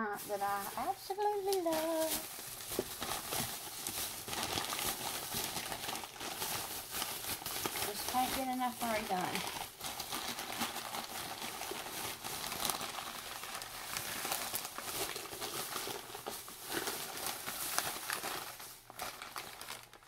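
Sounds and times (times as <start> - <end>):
paper crinkling and rustling: 0.0 - 20.0.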